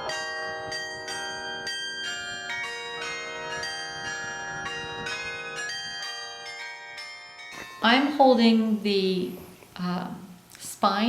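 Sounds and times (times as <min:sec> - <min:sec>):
carillon bells playing a tune: 0:00.0 - 0:08.9.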